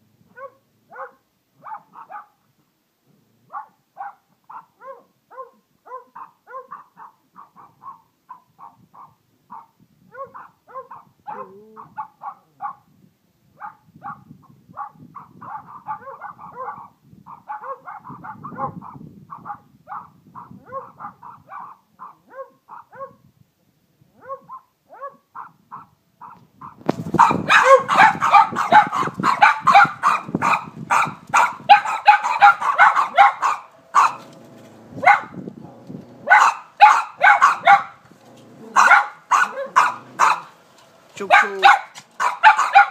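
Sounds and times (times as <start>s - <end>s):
dog barking and yelping: 0.3s - 2.4s, 3.5s - 12.9s, 14.8s - 23.2s, 24.2s - 35.4s, 36.2s - 38.0s, 38.6s - 40.6s, 41.2s - 42.9s.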